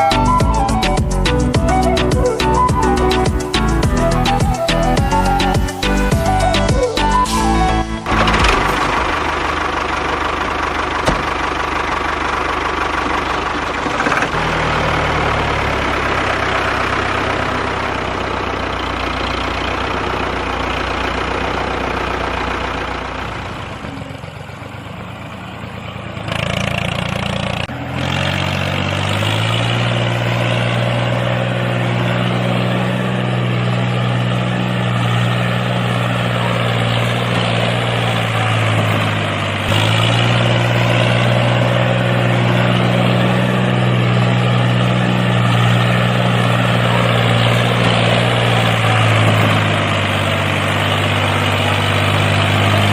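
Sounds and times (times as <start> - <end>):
mini tractor motor running: 8.1 - 52.9.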